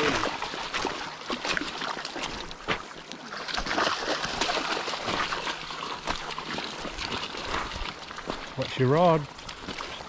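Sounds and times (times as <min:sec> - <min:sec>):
dog splashing through water: 0:00.0 - 0:10.0.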